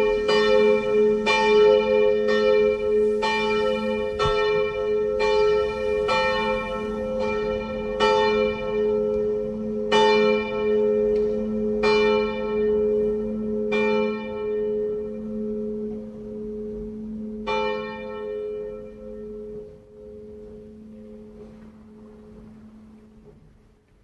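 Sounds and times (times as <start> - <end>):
church bell ringing: 0.0 - 23.5.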